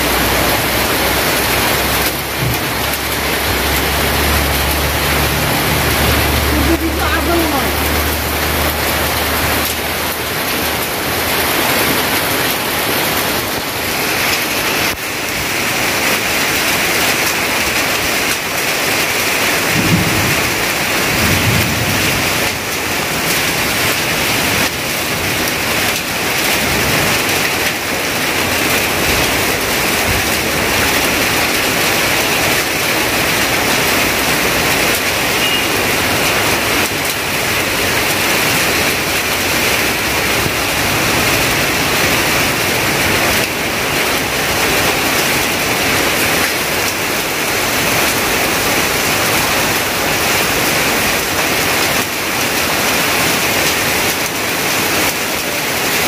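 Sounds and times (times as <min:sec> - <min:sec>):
heavy rain on metal roofs: 0:00.0 - 0:56.0.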